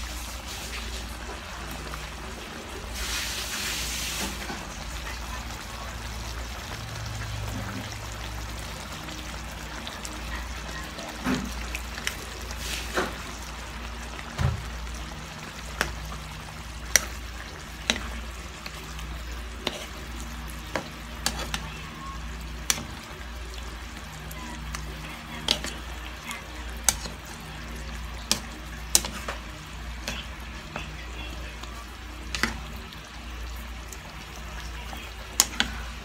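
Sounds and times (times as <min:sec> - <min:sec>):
sauce sizzling in a frying pan: 0:00.0 - 0:36.0.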